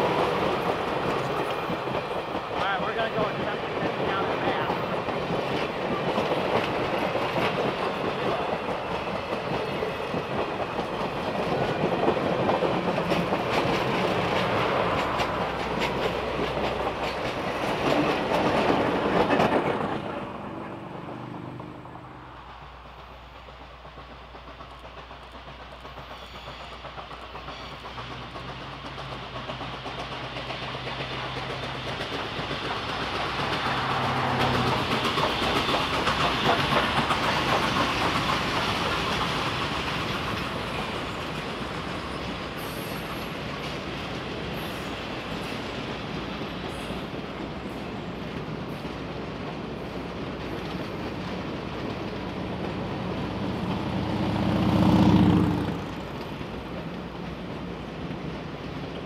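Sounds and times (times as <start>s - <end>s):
train wheels clacking over rail joints: 0.0s - 21.8s, 22.5s - 59.0s
steam locomotive low rumble: 0.0s - 59.0s.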